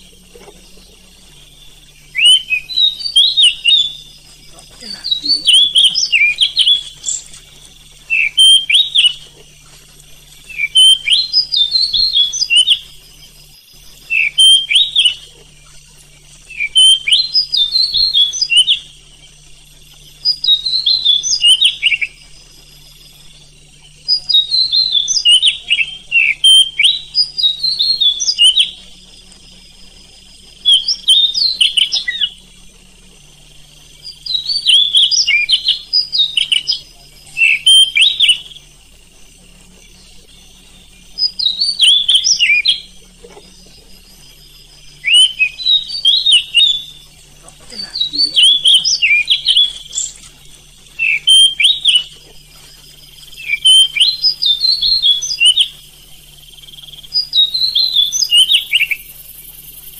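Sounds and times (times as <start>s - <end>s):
bird singing whistled notes: 0.0s - 59.9s
faint low hum: 0.0s - 59.9s.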